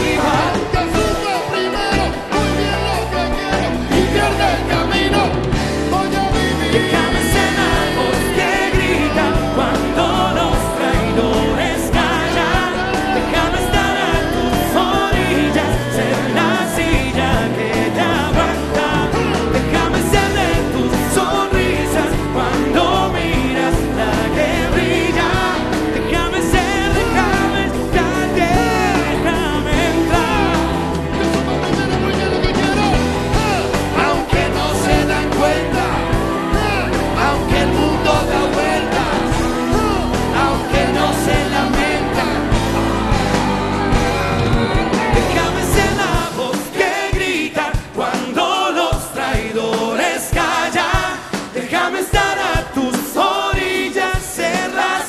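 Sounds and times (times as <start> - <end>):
live band playing: 0.0 - 55.0
men singing into microphones: 0.0 - 55.0.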